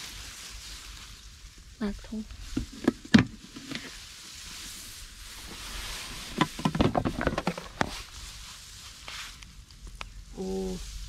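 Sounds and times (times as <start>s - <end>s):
soft rustling hiss: 0.0s - 11.0s.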